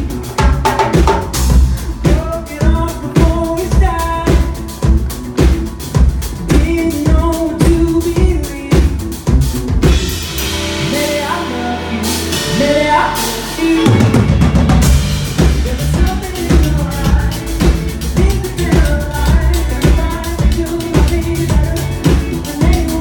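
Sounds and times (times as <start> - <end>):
bass and keyboard chords: 0.0 - 23.0
drum kit beat: 0.0 - 23.0.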